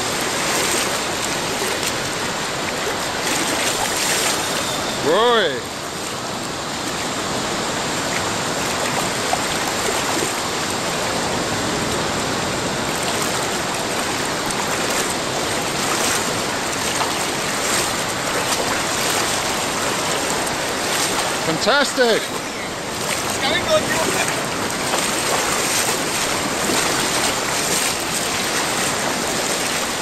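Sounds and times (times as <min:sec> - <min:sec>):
sea surf washing in: 0:00.0 - 0:30.0.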